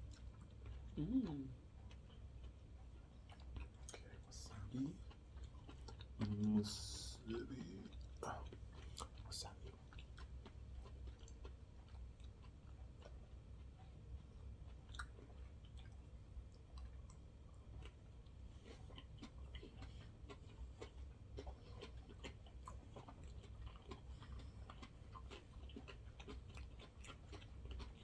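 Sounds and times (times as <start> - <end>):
close-miked chewing: 0.0 - 28.0.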